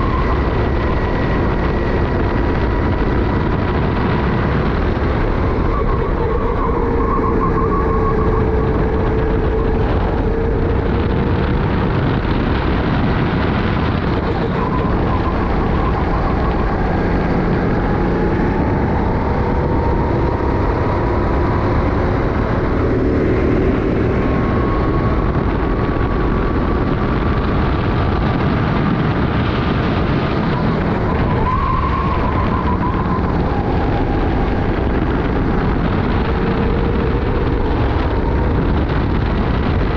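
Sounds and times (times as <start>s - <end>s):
kart engine running hard: 0.0s - 39.9s
wind noise on microphone: 0.0s - 39.9s.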